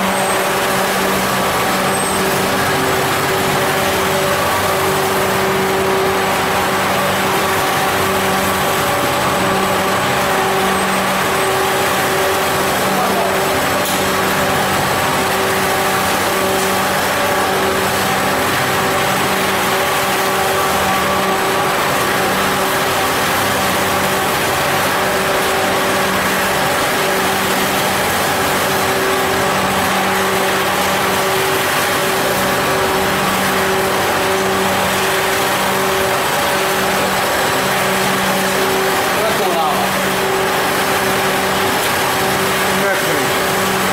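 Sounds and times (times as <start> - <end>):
popcorn kettle humming: 0.0 - 43.9.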